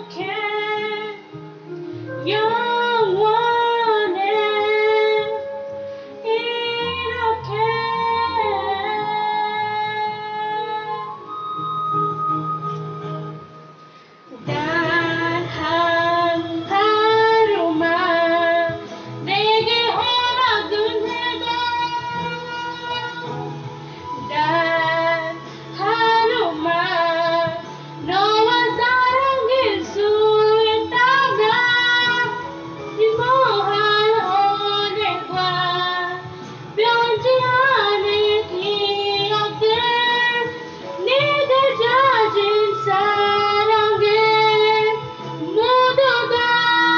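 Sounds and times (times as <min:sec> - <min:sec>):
girl singing into microphone: 0:00.0 - 0:11.7, 0:14.3 - 0:46.9
instrumental backing track: 0:00.0 - 0:46.9.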